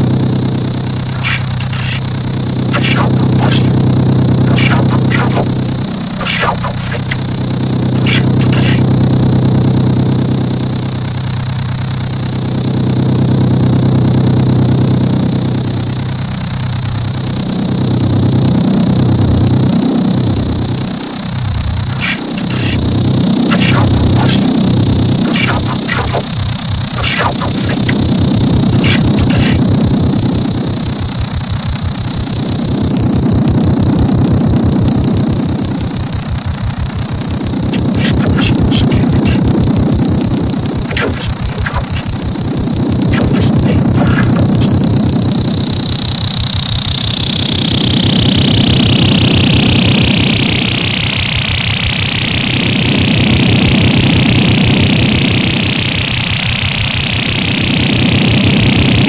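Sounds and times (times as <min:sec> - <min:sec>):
low hum: 0:00.0 - 0:50.8
pulsing low rumble: 0:00.0 - 0:51.2
electronic drone with high whine: 0:00.0 - 0:59.0.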